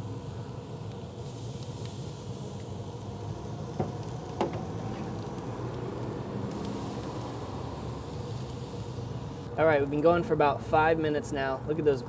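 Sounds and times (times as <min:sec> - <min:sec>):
meat sizzling on grill: 0:00.0 - 0:10.0.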